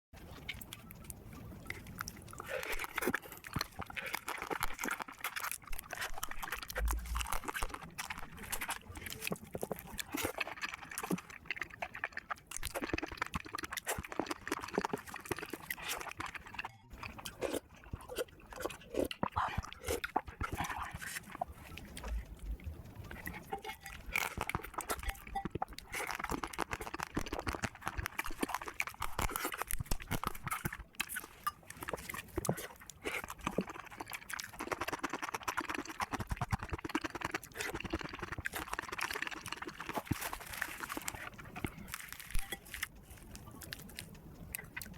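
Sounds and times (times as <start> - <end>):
wet chewing and slurping: 0.2 - 44.9
food crunching: 0.4 - 44.9.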